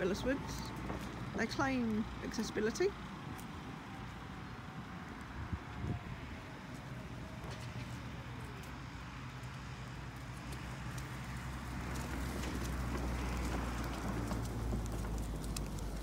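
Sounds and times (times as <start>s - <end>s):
grit ticking under wheels: 0.0s - 5.9s, 6.6s - 16.0s
wheelchair rolling on tarmac: 0.0s - 16.0s.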